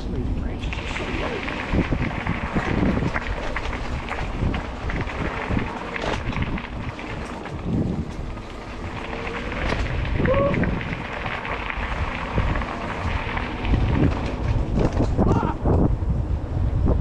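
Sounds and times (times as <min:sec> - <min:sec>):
bike rattling over bumps: 0:00.0 - 0:17.0
tyres rumbling on dirt trail: 0:00.0 - 0:17.0
wind on microphone: 0:00.0 - 0:17.0.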